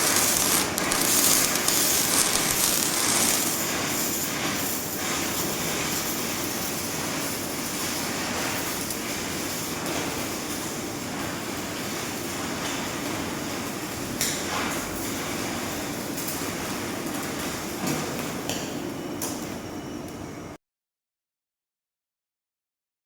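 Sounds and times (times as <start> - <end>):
welding crackling hiss: 0.0 - 19.5.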